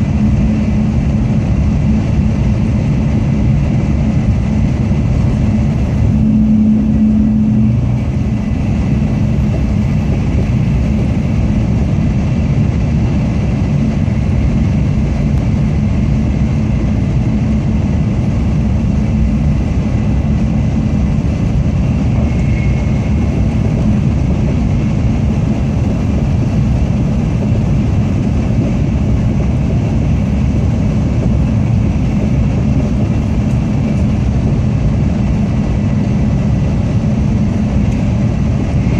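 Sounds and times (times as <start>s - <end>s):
low hum: 0.0s - 38.9s
train running rumble: 0.0s - 38.9s.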